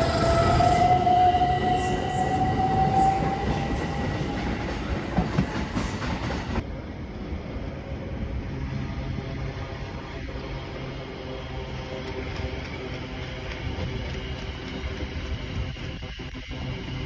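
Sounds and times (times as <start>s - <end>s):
train passing with high whine: 0.0s - 17.0s.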